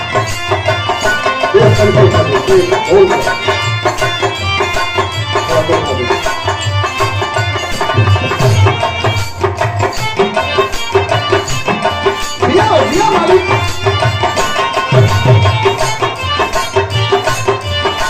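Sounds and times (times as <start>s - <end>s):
hand drums beating a rhythm: 0.0s - 18.0s.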